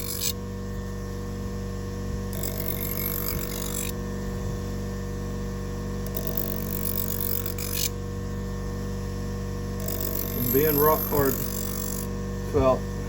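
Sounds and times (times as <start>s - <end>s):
buffing motor hum: 0.0s - 13.0s.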